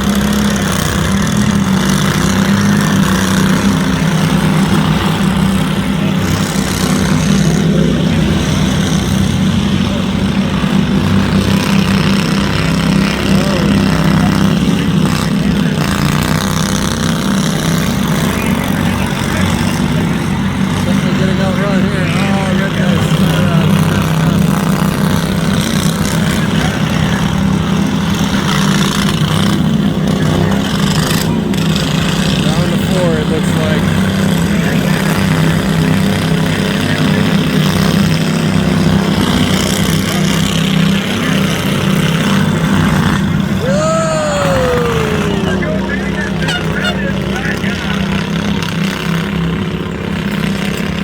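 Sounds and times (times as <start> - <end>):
lawnmower engines droning: 0.0 - 51.0.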